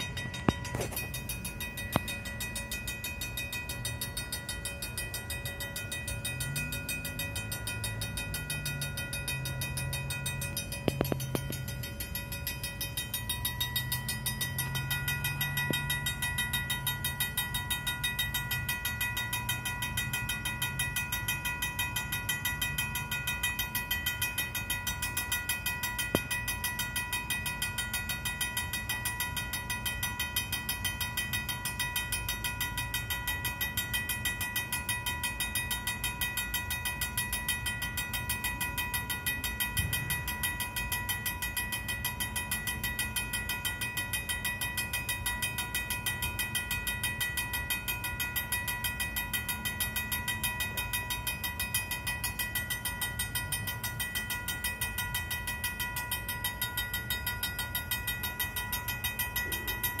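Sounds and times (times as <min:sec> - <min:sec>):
railroad crossing bell ringing: 0:00.0 - 1:00.0.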